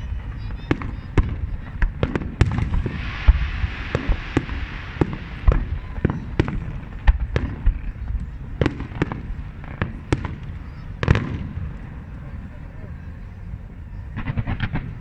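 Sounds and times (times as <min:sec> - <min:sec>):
crackling hiss: 0:00.0 - 0:12.2
distant explosions rumbling: 0:00.0 - 0:12.4
fireworks bangs: 0:00.0 - 0:12.4, 0:14.2 - 0:15.0.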